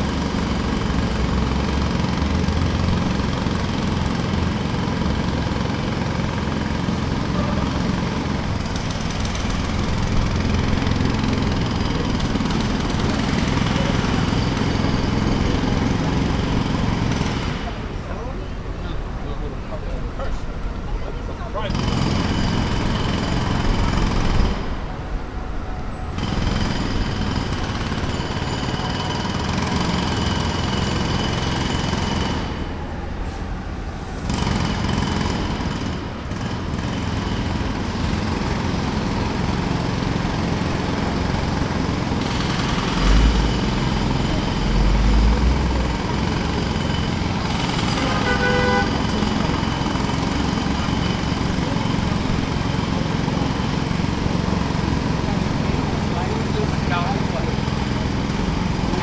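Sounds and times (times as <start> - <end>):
jackhammer hammering: 0.0 - 18.4, 21.6 - 25.1, 26.1 - 33.0, 34.1 - 59.0
traffic noise: 0.0 - 59.0.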